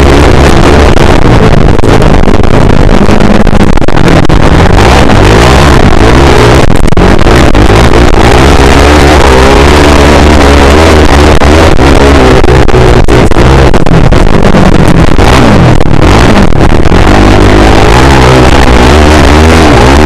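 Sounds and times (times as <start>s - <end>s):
motocross bike engine revving: 0.0s - 20.0s.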